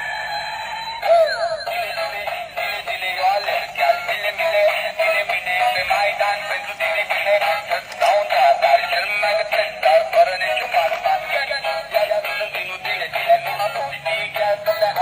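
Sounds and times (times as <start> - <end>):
synthetic singing voice: 1.0 - 15.0.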